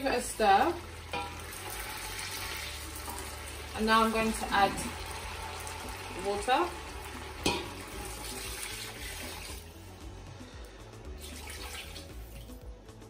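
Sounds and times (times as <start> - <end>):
water pouring into pot: 0.5 - 9.7, 11.2 - 12.6.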